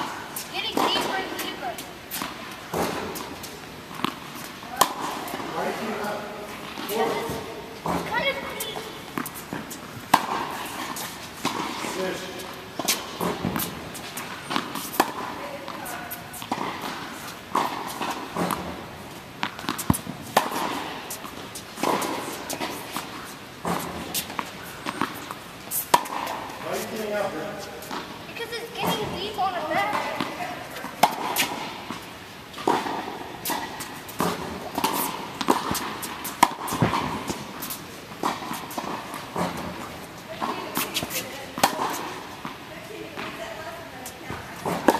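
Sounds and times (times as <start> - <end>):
tennis balls bouncing on hard court: 0.0 - 44.9
tennis balls struck by rackets: 0.0 - 44.9.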